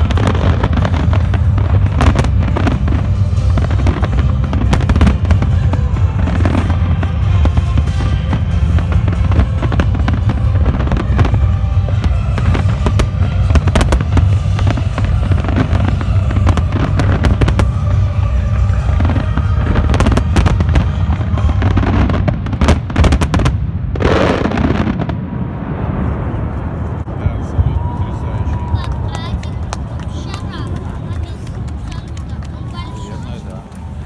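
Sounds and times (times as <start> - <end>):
low rumble: 0.0 - 33.0
fireworks crackling: 0.0 - 34.0.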